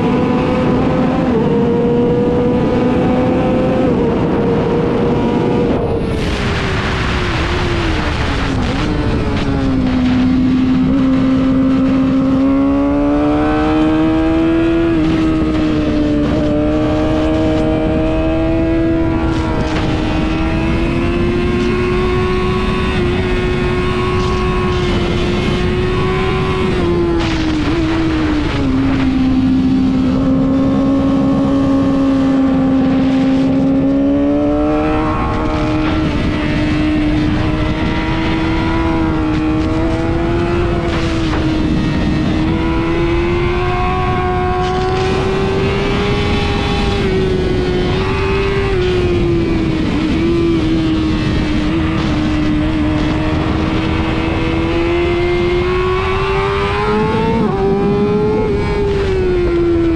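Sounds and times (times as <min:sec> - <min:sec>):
sport bike engine revving high: 0:00.0 - 0:59.9
wind rush on microphone: 0:00.0 - 0:59.9.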